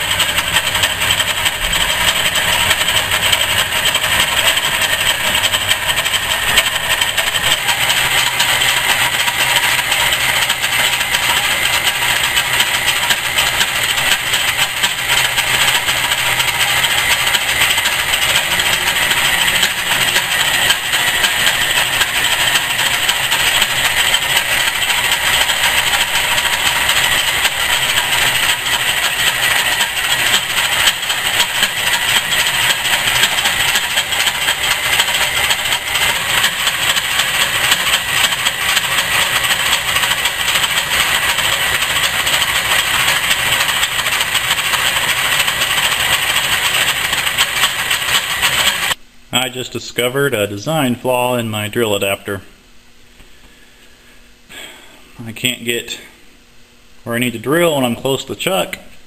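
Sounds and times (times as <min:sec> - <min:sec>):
metal lathe drilling into steel: 0:00.0 - 0:49.0.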